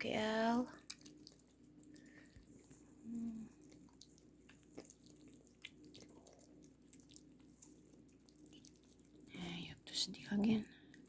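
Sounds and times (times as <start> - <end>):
cat chewing food: 0.6 - 11.0.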